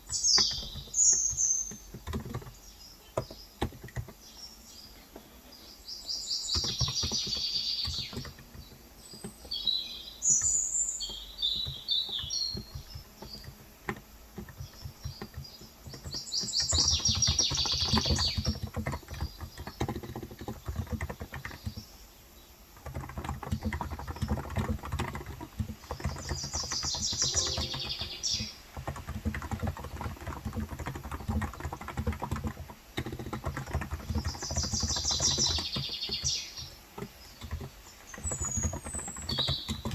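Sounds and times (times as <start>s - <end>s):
keyboard typing: 0.0s - 4.3s, 6.5s - 22.0s, 22.7s - 39.9s
small birds chirping: 0.0s - 39.9s.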